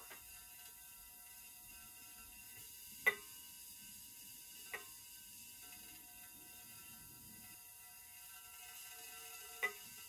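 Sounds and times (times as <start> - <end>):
plasma lamp humming: 0.0 - 10.0.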